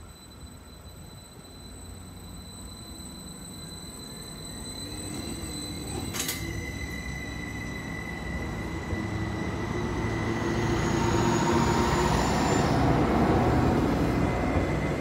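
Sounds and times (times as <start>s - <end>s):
diesel train passing: 0.0s - 15.0s
rising whine: 1.4s - 15.0s.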